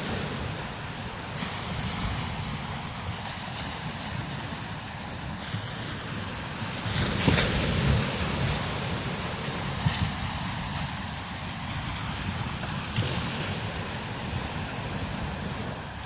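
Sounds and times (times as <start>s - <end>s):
strong wind blowing: 0.0s - 16.0s
wind buffeting microphone: 0.0s - 16.0s.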